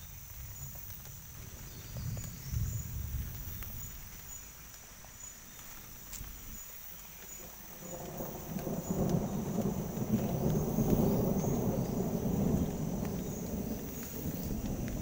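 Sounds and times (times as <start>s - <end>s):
low thunder rumble: 0.0s - 4.4s, 7.4s - 15.0s
insects chirping: 0.0s - 15.0s.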